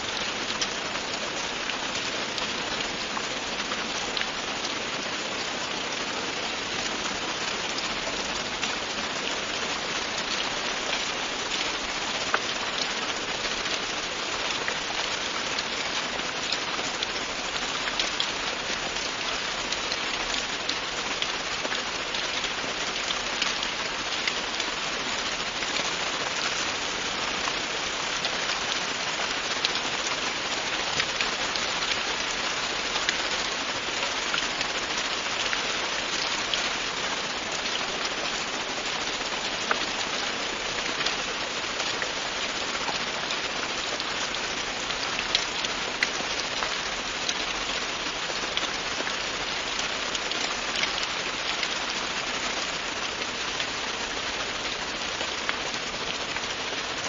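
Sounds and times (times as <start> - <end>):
rain falling on a surface: 0.0 - 57.0
raindrops ticking: 0.0 - 57.0.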